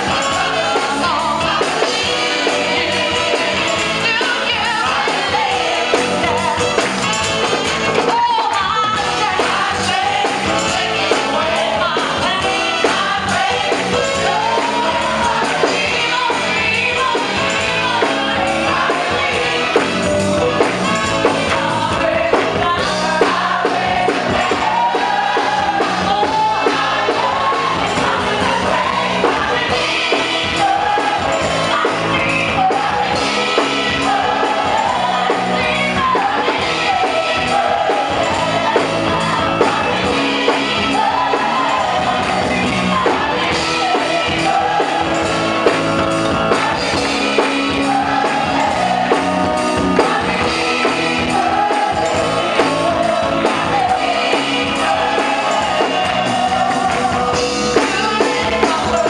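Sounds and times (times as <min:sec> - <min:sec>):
band playing a steady beat: 0:00.0 - 0:59.0
gospel singers: 0:00.0 - 0:59.0.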